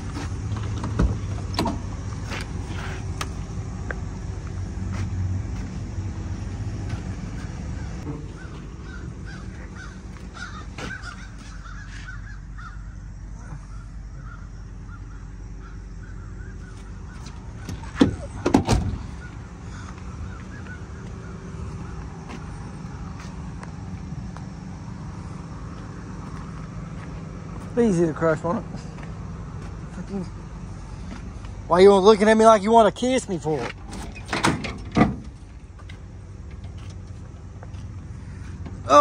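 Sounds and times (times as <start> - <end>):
heavy equipment engine rumble: 0.0 - 39.0.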